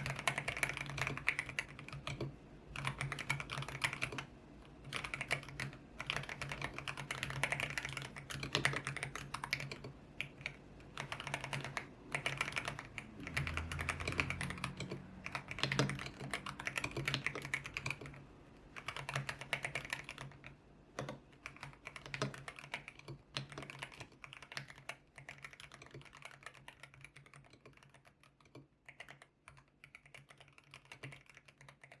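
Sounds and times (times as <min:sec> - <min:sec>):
typing on mechanical keyboard: 0:00.0 - 0:32.0.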